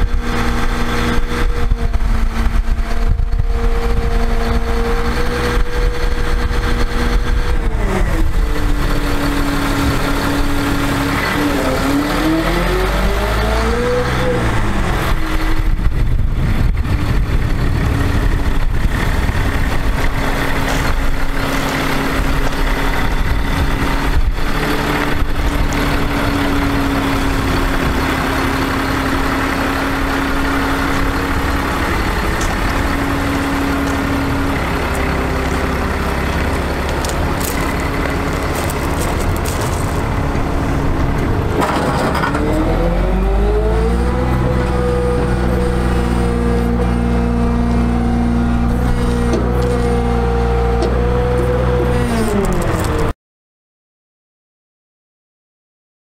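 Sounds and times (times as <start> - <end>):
truck engine idling: 0.0 - 13.8, 14.4 - 52.1.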